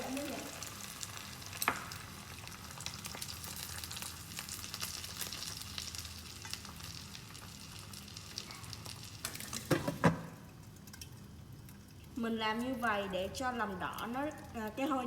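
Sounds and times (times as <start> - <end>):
eggs and sausage sizzling in pan: 0.0 - 15.0.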